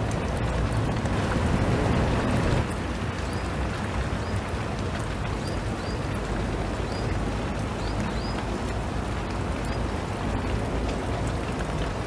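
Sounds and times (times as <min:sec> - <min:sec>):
rain falling on river: 0:00.0 - 0:12.0.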